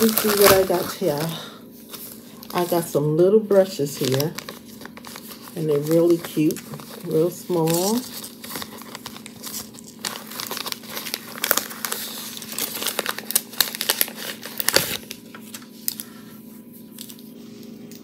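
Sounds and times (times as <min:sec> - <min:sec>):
plastic pouch crinkling: 0:00.0 - 0:03.0, 0:03.6 - 0:16.2.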